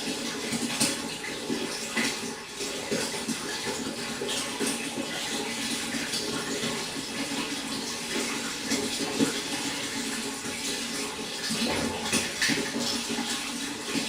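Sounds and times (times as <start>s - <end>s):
water trickling into a pond: 0.0s - 14.0s.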